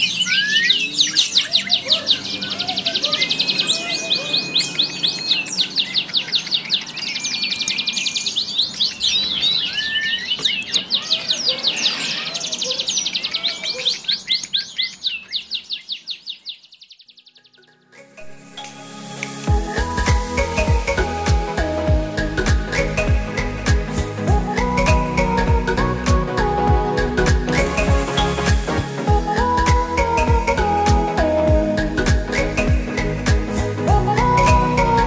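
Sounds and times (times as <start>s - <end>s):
lovebirds chirping: 0.0s - 35.0s.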